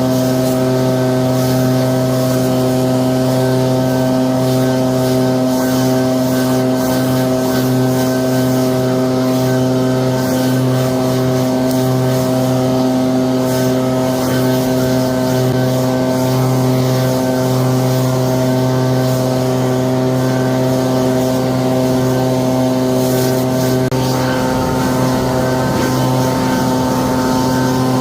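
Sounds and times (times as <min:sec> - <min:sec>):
leaf blower motor droning: 0:00.0 - 0:28.0.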